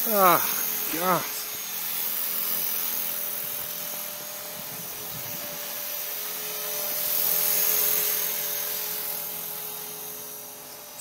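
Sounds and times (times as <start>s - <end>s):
model helicopter rotor whine: 0.0s - 11.0s.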